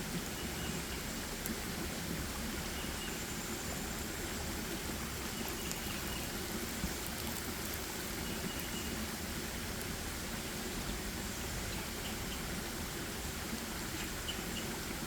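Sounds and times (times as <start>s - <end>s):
stream of water rushing: 0.0s - 15.0s.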